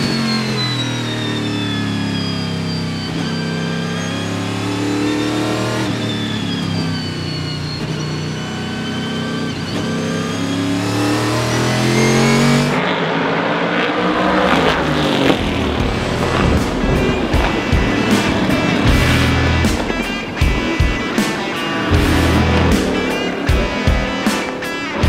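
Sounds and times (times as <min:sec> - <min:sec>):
race car engine at speed: 0:00.0 - 0:25.0.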